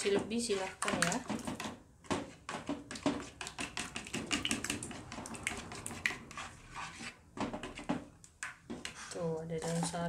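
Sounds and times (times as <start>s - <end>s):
spatula scraping ceramic bowl: 0.0s - 10.0s.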